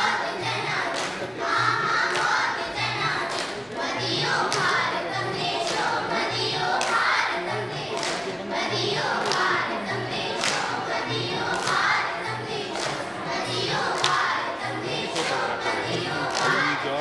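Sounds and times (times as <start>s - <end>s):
children singing in chorus: 0.0s - 17.0s.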